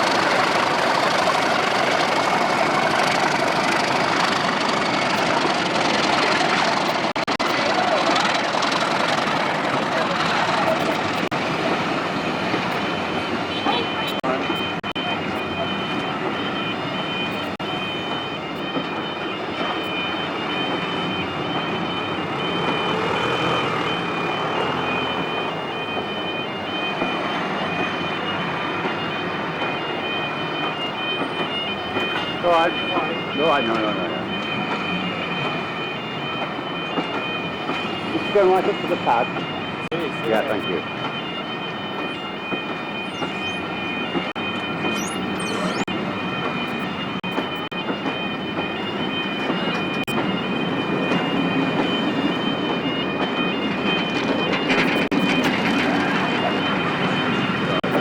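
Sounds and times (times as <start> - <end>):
diesel locomotive engine running: 0.0 - 58.0
two-tone electronic alarm: 0.0 - 58.0.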